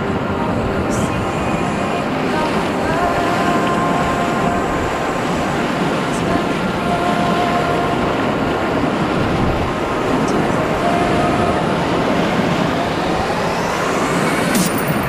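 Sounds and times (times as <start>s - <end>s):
whitewater rushing: 0.0s - 15.0s.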